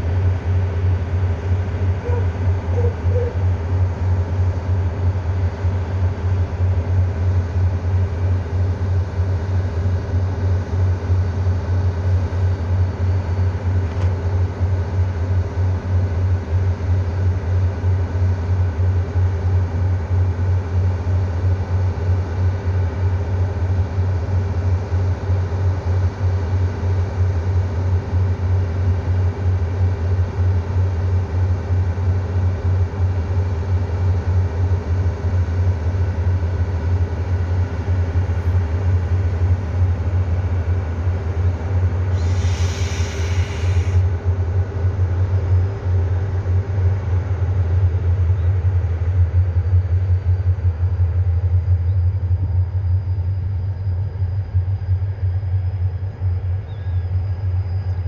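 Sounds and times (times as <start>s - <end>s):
diesel train engine idling: 0.0s - 52.3s.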